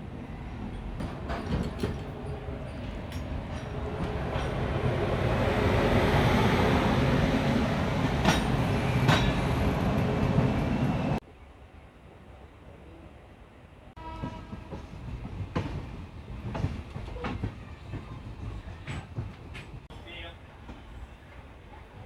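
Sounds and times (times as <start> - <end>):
passenger train rumbling on rails: 0.0 - 22.0.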